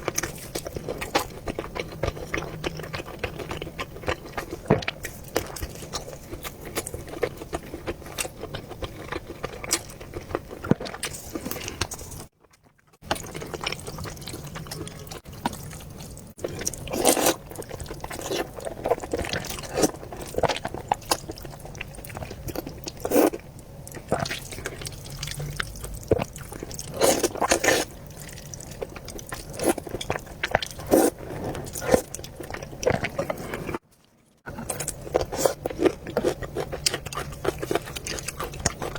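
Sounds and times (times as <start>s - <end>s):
person chewing noodles: 0.0s - 38.9s.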